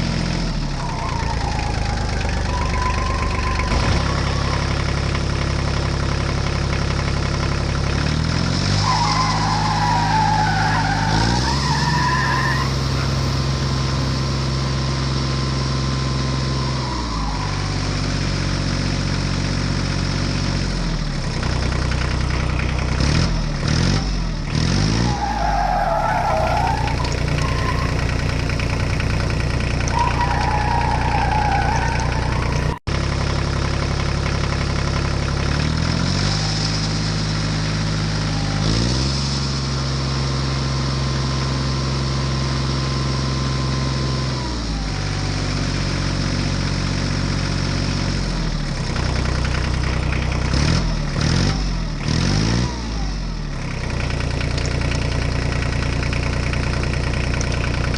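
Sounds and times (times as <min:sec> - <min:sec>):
vehicle engine running: 0:00.0 - 0:57.9.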